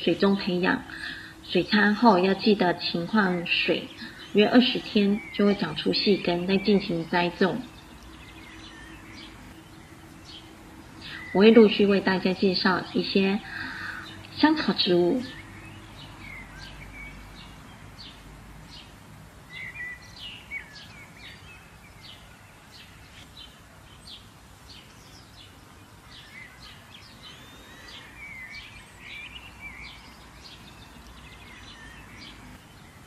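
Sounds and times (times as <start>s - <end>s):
faint background hiss: 0.0s - 33.0s
small birds chirping: 0.0s - 33.0s.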